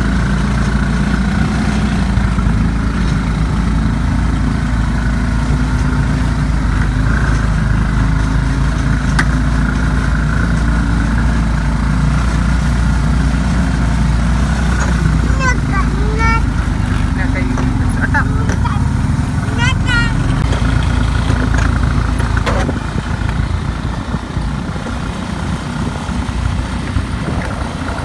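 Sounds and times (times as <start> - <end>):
buggy engine running: 0.0 - 28.0.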